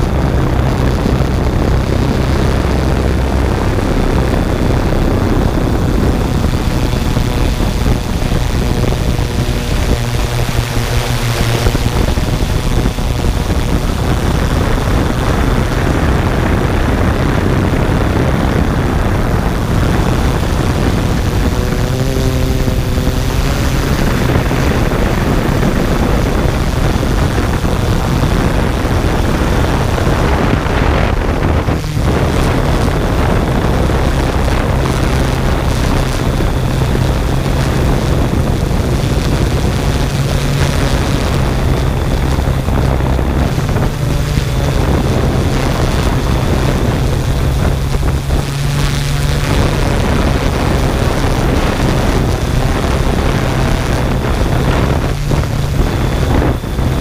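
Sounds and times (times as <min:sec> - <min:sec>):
drone propellers whirring: 0:00.0 - 0:57.0
wind noise: 0:00.0 - 0:57.0.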